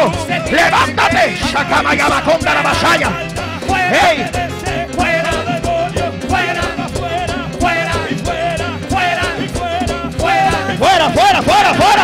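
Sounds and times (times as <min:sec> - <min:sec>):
person singing: 0:00.0 - 0:12.0
steady drum beat: 0:00.0 - 0:12.0
worship band music: 0:00.0 - 0:12.0.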